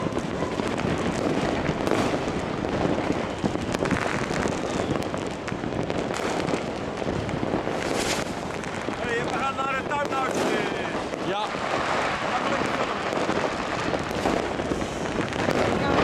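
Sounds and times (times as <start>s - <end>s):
distant fireworks bangs: 0.0s - 16.0s
fireworks crackling and popping: 0.0s - 16.0s.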